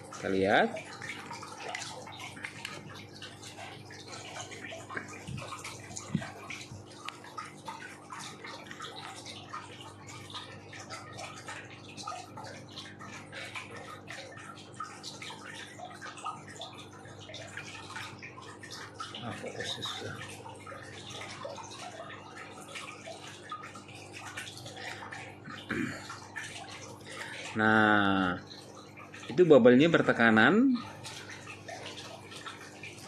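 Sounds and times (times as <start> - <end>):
aquarium pump humming: 0.0 - 33.0
fizzing air bubbles in water: 0.0 - 33.0.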